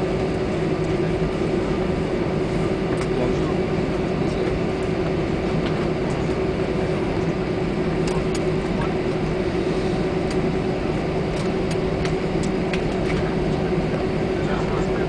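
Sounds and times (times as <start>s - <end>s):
airliner cabin engine hum: 0.0s - 15.0s.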